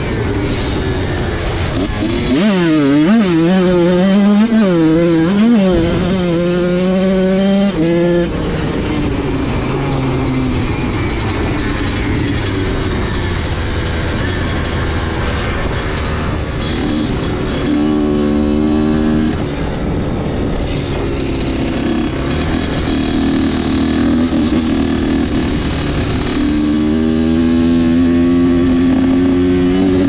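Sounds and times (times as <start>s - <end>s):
dirt bike engine revving: 0.0s - 8.9s, 9.6s - 30.0s.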